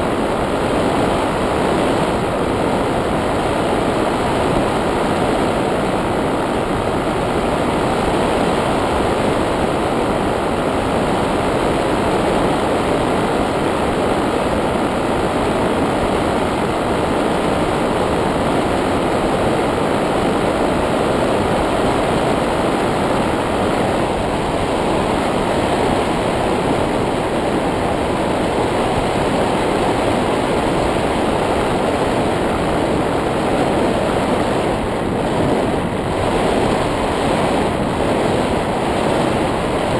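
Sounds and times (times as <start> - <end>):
rushing air noise: 0.0 - 39.9.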